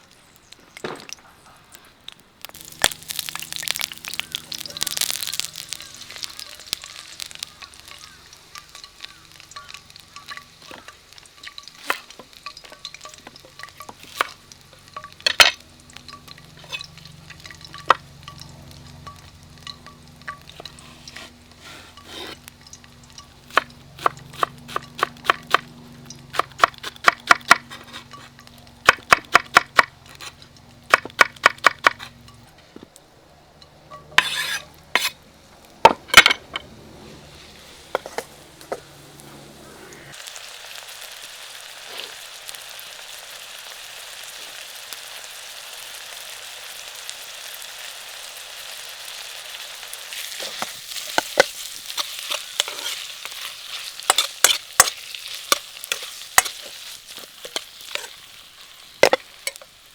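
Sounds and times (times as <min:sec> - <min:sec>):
food sizzling in hot oil: 0:02.0 - 0:59.9.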